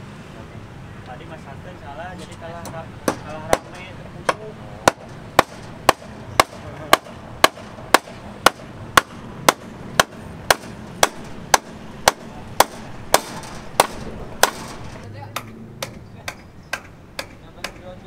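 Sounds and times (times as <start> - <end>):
hammer striking steel bars: 3.1 - 17.8.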